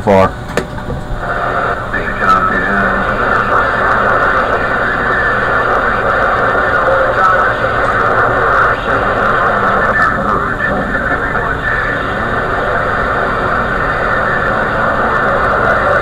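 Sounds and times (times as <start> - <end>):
garbled distant radio signals: 0.0 - 16.0
radio static: 0.0 - 16.0.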